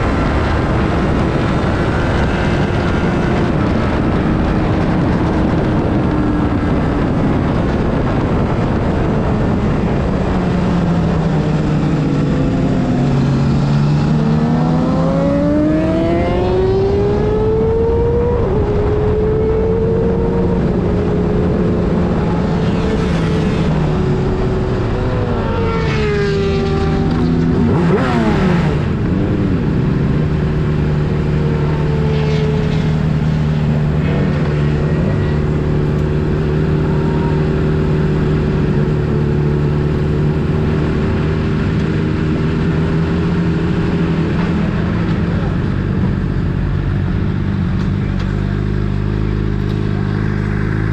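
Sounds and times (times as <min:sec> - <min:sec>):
wind rush: 0:00.0 - 0:48.2
motorcycle engine accelerating: 0:00.0 - 0:50.9.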